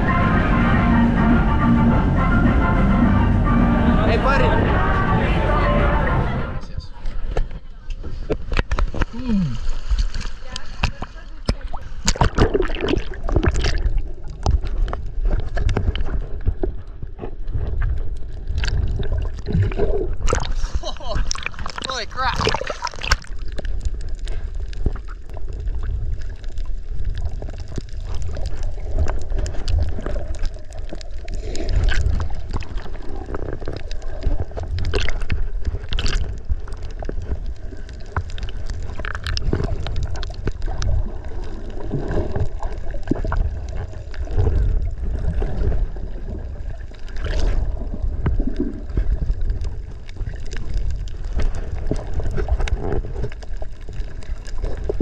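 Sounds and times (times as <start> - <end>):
muffled underwater rumble: 0.0 - 55.0
water gurgling: 3.4 - 55.0.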